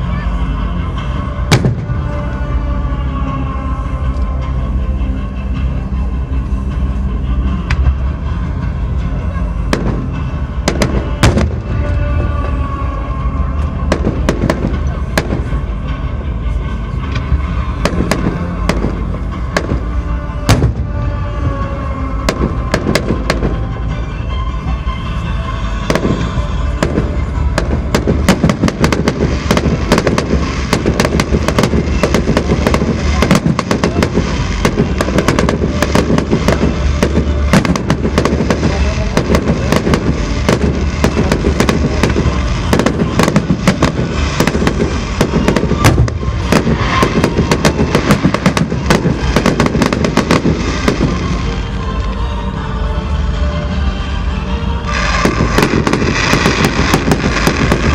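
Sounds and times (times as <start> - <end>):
fireworks bangs and crackling: 1.0 - 3.4, 7.4 - 24.3, 25.6 - 52.6, 54.8 - 57.9.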